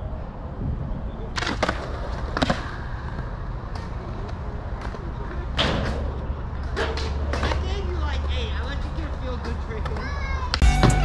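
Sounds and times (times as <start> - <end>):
skateboard clacks on concrete: 1.3 - 10.6.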